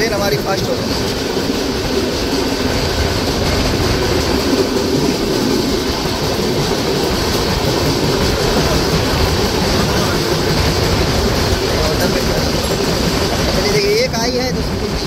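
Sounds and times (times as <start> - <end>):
trains rumbling and rattling: 0.0 - 15.0.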